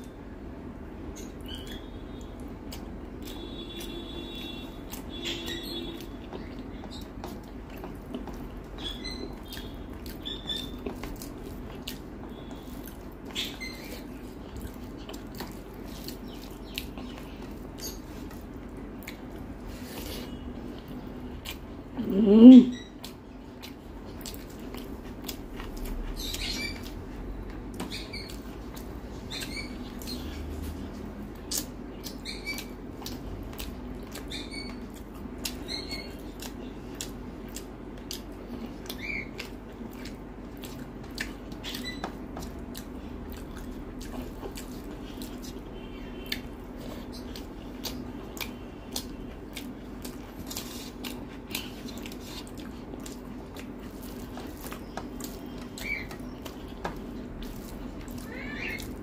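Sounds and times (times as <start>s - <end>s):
person chewing with wet smacks: 0.0s - 59.0s
steady low hum: 0.0s - 59.0s.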